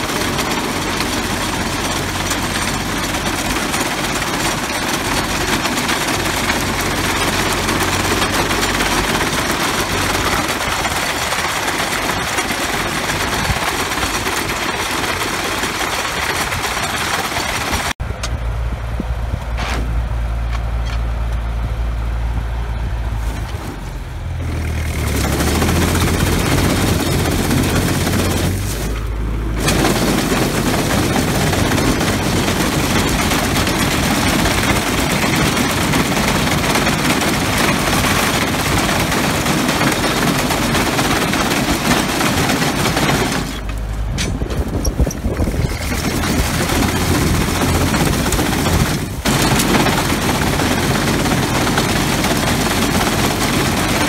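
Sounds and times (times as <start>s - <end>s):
rapid mechanical clatter: 0.0s - 18.4s, 24.4s - 54.0s
tractor engine running: 0.0s - 54.0s.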